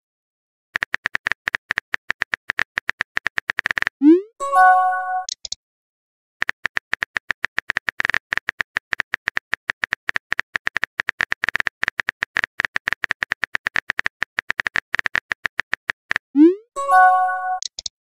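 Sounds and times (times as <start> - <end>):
keyboard typing clicks: 0.8 - 5.6, 6.4 - 17.9.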